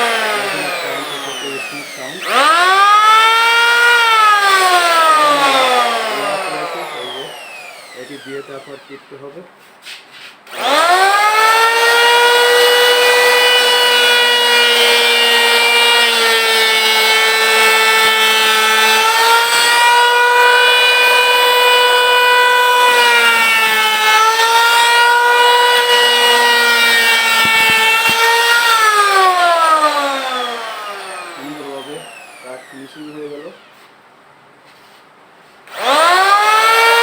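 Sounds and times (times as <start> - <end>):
electric hand planer whining: 0.0 - 9.2, 10.5 - 33.9, 35.7 - 37.0.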